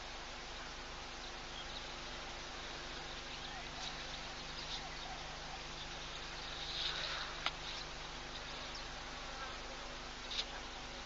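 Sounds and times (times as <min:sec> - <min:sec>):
faint low hum: 0:00.0 - 0:11.0
steady hiss: 0:00.0 - 0:11.0.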